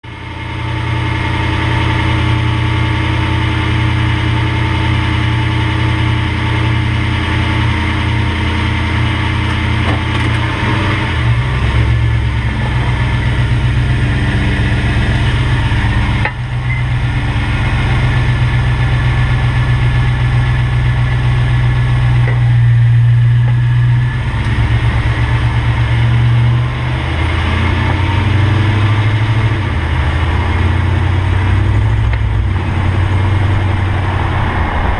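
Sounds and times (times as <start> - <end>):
pickup engine humming: 0.1 - 34.9.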